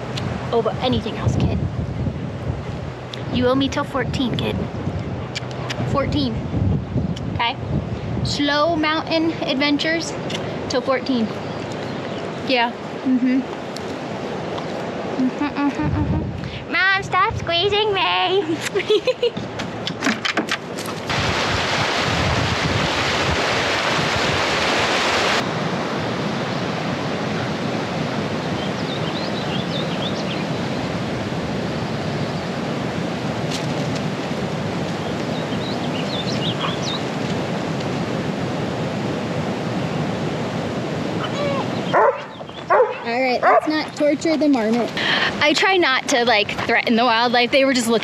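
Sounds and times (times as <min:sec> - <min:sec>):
rushing outdoor noise: 0:00.0 - 0:48.0.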